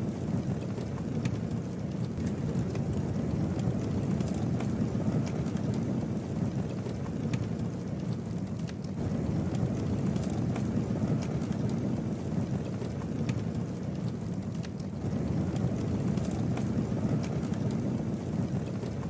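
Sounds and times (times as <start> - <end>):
campfire flames rumbling: 0.0 - 19.0
fire crackles and pops: 0.0 - 19.0.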